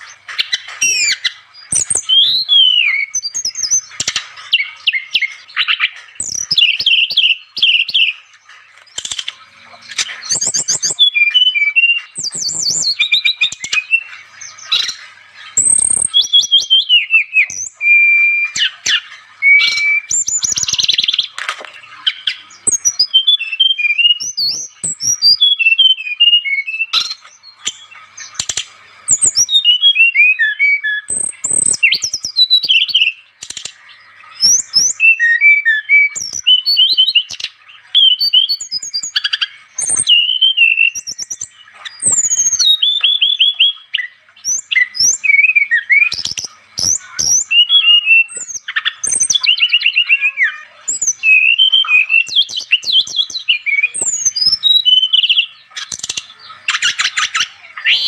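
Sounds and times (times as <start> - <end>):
bird singing whistled phrases: 0.0 - 8.3, 8.9 - 58.0.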